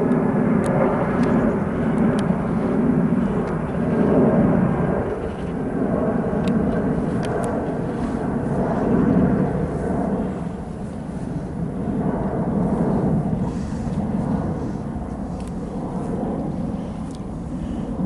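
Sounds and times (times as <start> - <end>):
jet airliner climbing overhead: 0.0 - 18.0.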